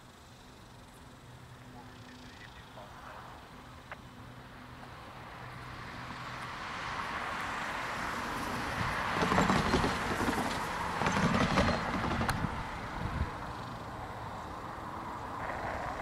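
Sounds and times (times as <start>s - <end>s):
freight train engine rumble: 0.0s - 16.0s.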